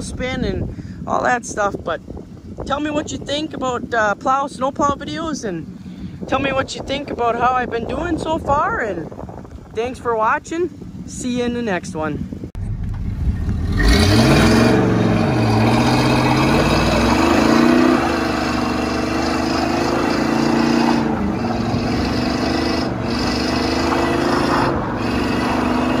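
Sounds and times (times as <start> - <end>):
pickup truck engine pulling: 0.0 - 26.0.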